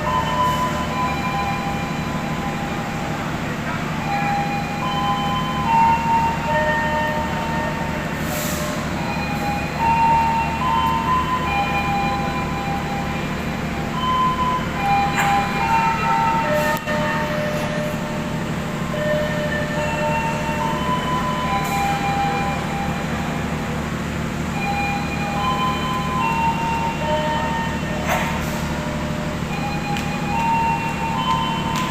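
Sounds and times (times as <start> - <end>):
diesel locomotive idling: 0.0 - 31.9.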